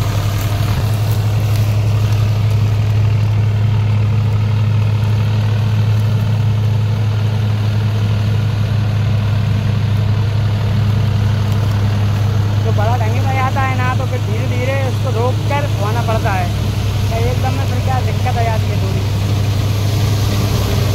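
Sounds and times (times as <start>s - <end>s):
reaper machine whirring: 0.0s - 20.9s
tractor diesel engine running: 0.0s - 20.9s.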